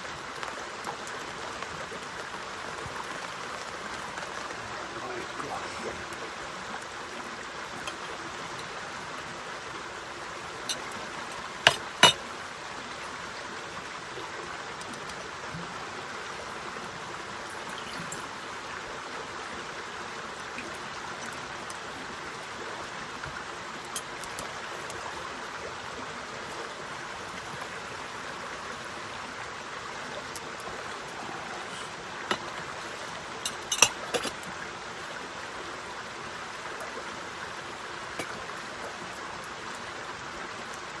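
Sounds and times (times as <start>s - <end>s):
rain hiss: 0.0s - 41.0s.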